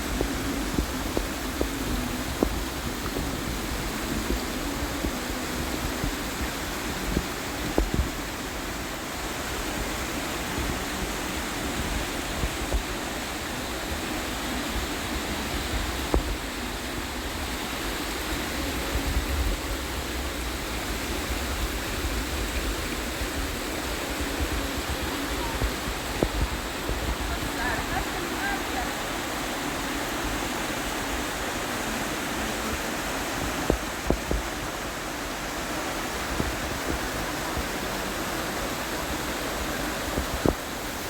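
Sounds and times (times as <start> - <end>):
flowing water rushing: 0.0 - 41.0.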